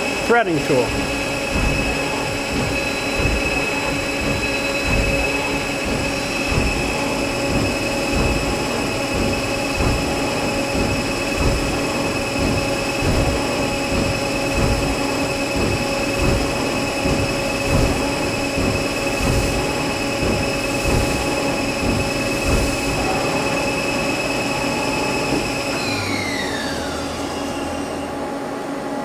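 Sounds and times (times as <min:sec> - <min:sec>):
coolant hiss: 0:00.0 - 0:27.9
lathe machine drone: 0:00.0 - 0:29.0.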